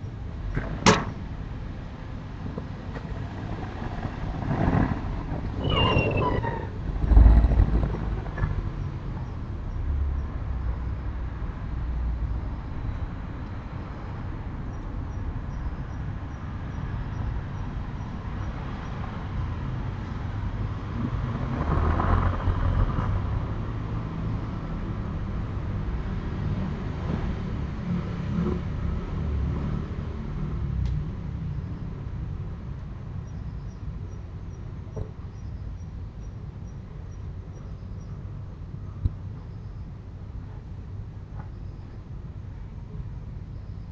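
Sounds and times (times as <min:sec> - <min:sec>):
low rumble of distant traffic: 0:00.0 - 0:43.9.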